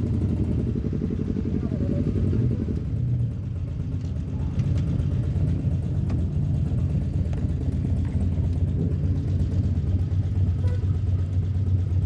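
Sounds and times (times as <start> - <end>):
motorcycle engine low rumble: 0.0 - 12.0.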